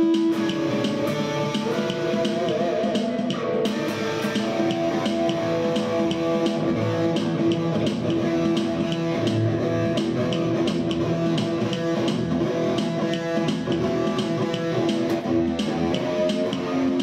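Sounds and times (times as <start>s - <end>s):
bass line: 0.0s - 17.0s
guitar-led music: 0.0s - 17.0s.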